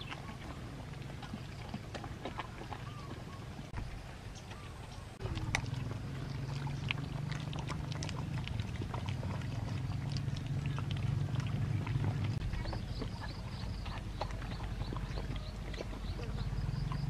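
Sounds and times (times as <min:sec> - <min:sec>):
low steady rumble: 0:00.0 - 0:17.0
puppies chewing and crunching: 0:00.0 - 0:17.0.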